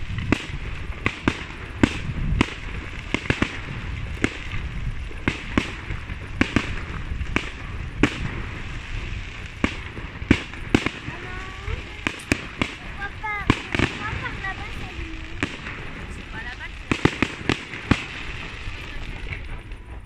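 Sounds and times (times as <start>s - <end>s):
fireworks shells bursting: 0.0s - 20.0s
low rumble: 0.0s - 20.0s.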